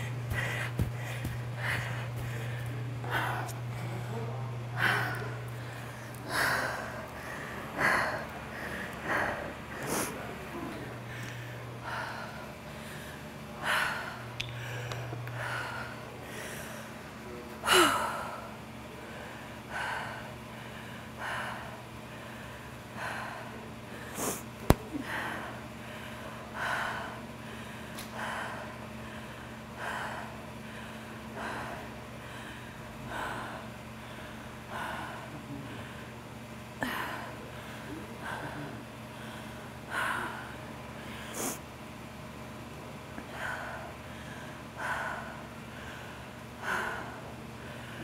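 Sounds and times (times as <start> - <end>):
woman breathing hard: 0.0 - 41.6, 43.2 - 48.0
steady low hum: 0.0 - 48.0.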